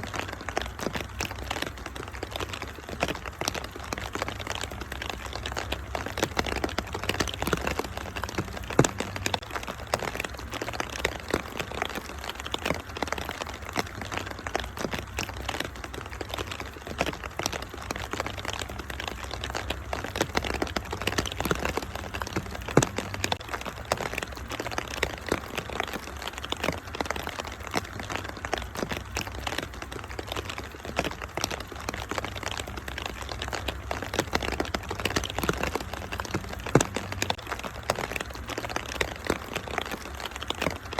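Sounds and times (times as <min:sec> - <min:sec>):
low steady rumble: 0:00.0 - 0:11.9, 0:13.2 - 0:25.8, 0:31.3 - 0:39.8
rain patter: 0:00.0 - 0:40.9
wood fire crackling and popping: 0:00.0 - 0:40.9.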